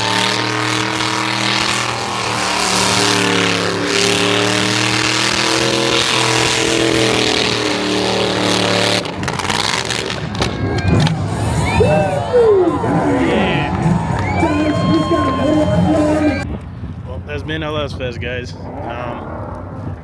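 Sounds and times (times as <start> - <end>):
car engine at high revs: 0.0 - 16.4.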